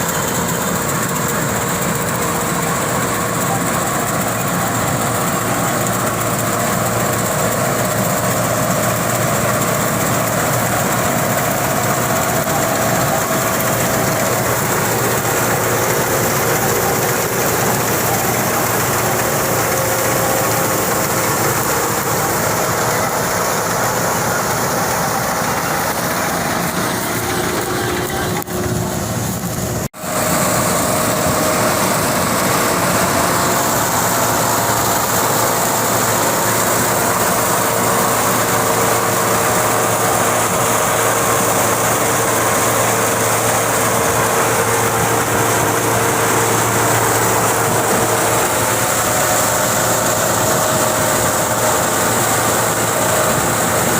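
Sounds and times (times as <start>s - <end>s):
tractor and chopper machine running: 0.0s - 53.9s.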